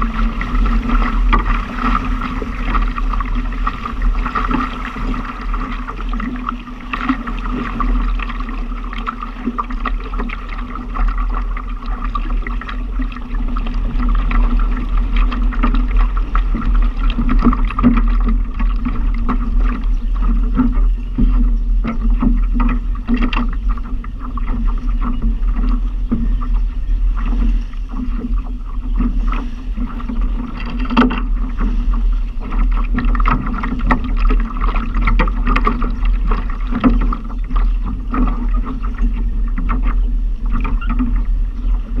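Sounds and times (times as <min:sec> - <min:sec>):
water slapping against boat hull: 0:00.0 - 0:42.0
wind rumble on microphone: 0:00.0 - 0:42.0.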